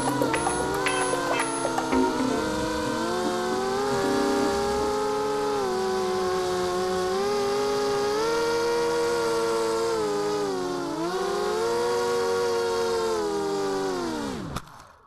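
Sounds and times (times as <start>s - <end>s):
quadcopter motors whining: 0.0s - 14.9s.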